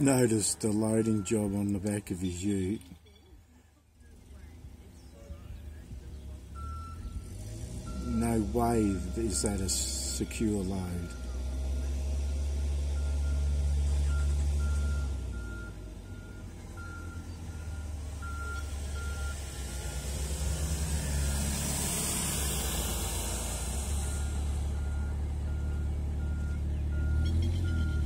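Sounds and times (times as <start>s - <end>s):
forklift reversing alarm beeping: 0.0s - 3.4s, 6.6s - 28.0s
low engine drone: 4.0s - 28.0s.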